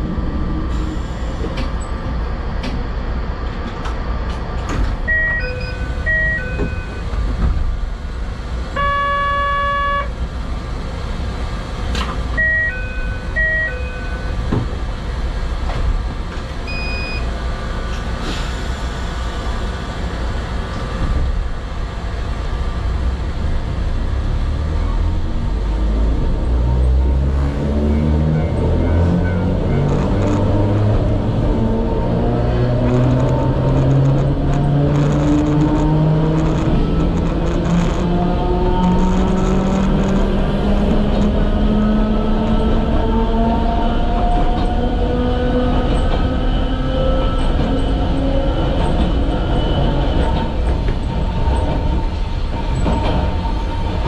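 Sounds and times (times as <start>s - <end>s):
electric railcar humming: 0.0s - 54.0s
train rumbling pulling away: 10.2s - 54.0s.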